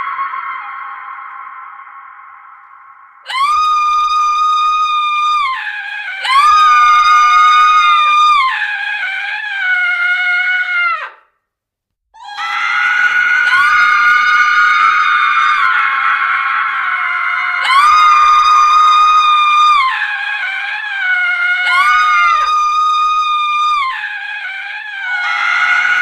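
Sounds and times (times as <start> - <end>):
woman screaming: 0.0 - 2.2, 3.3 - 11.2, 12.2 - 26.0.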